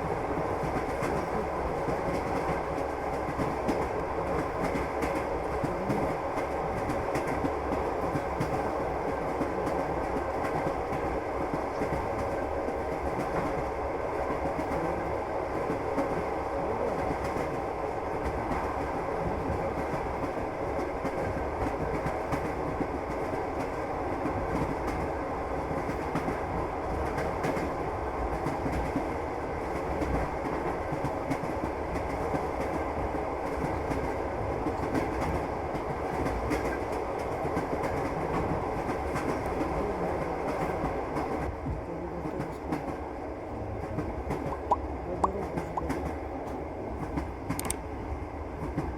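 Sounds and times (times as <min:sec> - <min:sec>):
train carriage rumble: 0:00.0 - 0:48.9.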